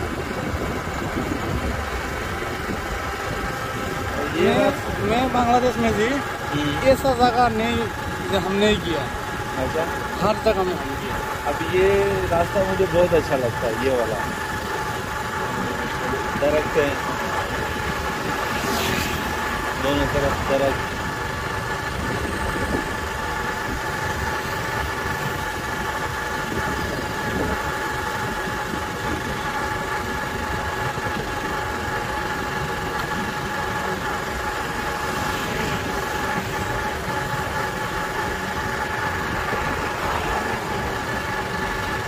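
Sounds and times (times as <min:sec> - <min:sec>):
motorbike engine running: 0:00.0 - 0:42.0
steady whine: 0:00.0 - 0:42.0
wind and road noise: 0:00.0 - 0:42.0.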